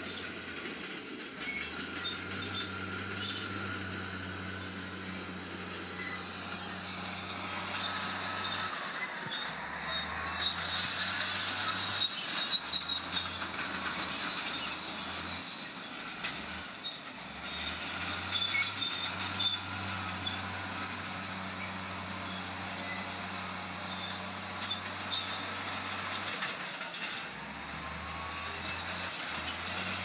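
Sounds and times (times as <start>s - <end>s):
diesel engine humming: 0.0s - 12.1s, 17.2s - 26.7s, 27.3s - 30.0s
steel tracks squealing and clanking: 0.0s - 30.0s.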